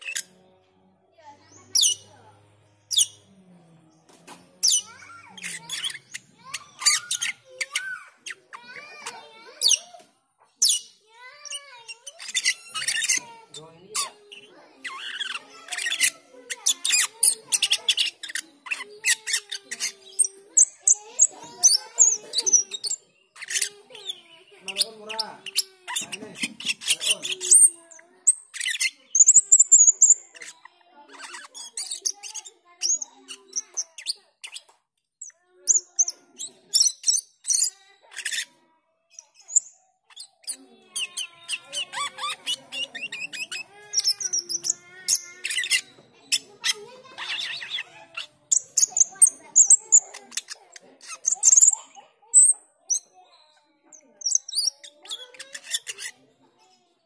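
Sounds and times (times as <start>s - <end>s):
starling chattering song: 0.0s - 0.4s, 1.2s - 3.5s, 4.3s - 53.2s, 53.8s - 56.8s.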